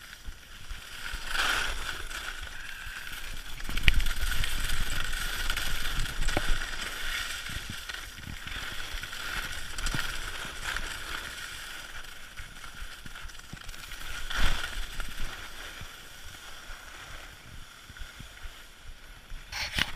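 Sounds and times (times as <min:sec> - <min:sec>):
skis scraping over snow: 0:00.0 - 0:19.9
wind rumbling on microphone: 0:00.0 - 0:19.9.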